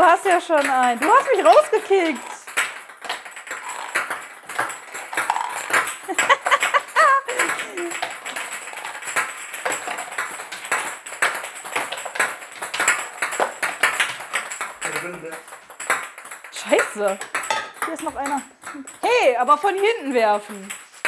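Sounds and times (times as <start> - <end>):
plastic balls clattering and bouncing: 0.0 - 21.0.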